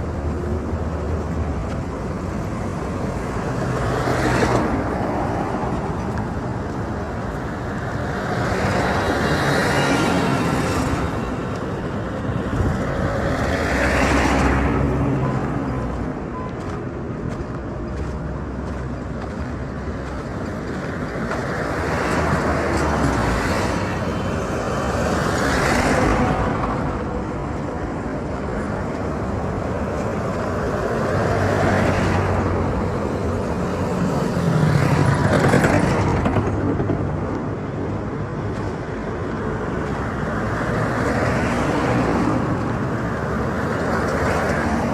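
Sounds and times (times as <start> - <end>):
steady traffic din: 0.0 - 44.9
vehicles passing: 0.0 - 44.9.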